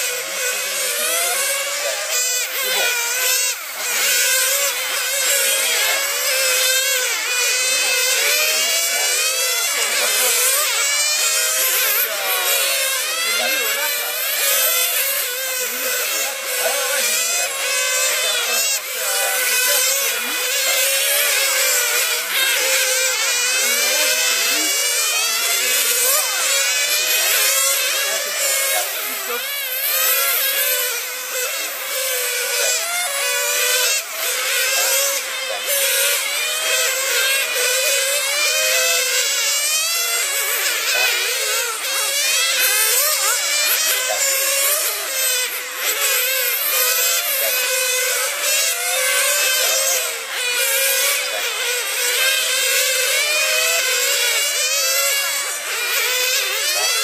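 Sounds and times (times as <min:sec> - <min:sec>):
model racing car engines whining: 0:00.0 - 0:57.0.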